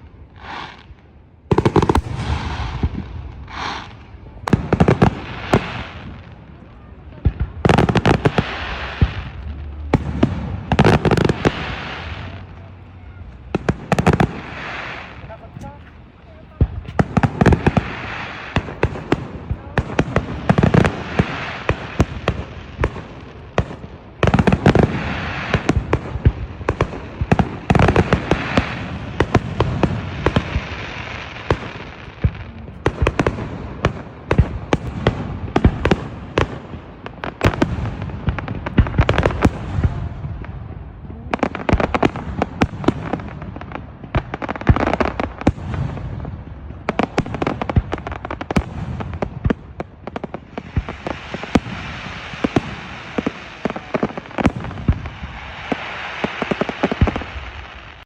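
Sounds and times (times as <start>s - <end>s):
fireworks crackling and hissing: 0.0s - 58.0s.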